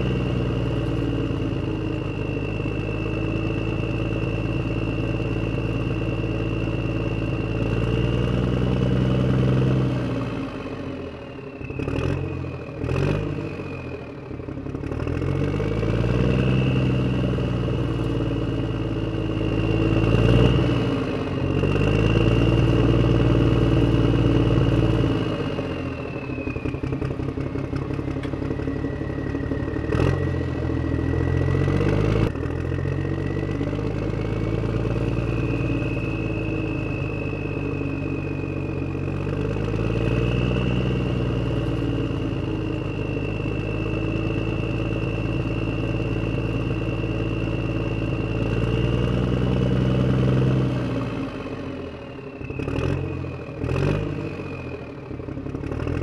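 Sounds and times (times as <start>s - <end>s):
tractor engine with high whine: 0.0s - 56.0s.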